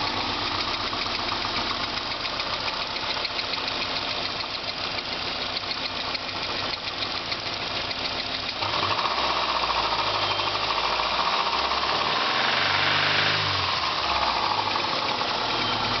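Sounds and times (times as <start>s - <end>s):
car engine running with knocking: 0.0s - 16.0s.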